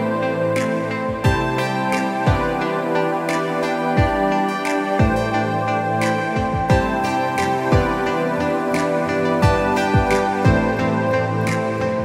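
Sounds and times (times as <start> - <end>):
held synth chords: 0.0 - 12.0.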